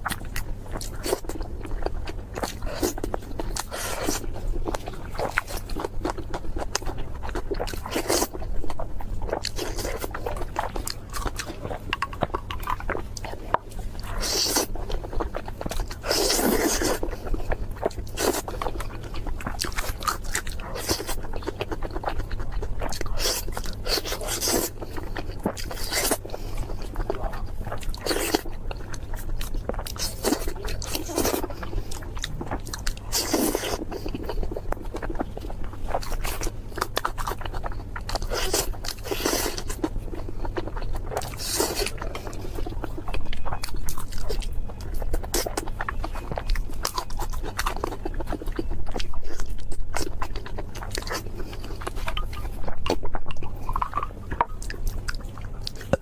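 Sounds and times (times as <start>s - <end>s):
crispy food being chewed: 0.0s - 56.0s.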